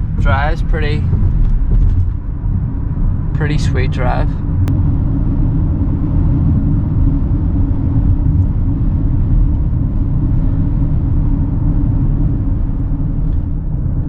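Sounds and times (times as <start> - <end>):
car engine and tyres rumbling: 0.0 - 14.0
constant low hum: 0.0 - 14.0.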